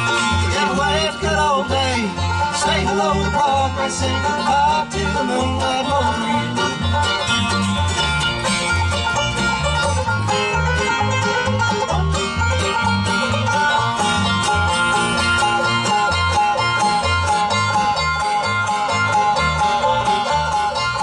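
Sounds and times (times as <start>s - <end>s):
acoustic guitar: 0.0s - 21.0s
banjo: 0.0s - 21.0s
mandolin: 0.0s - 21.0s
upright bass: 0.0s - 21.0s.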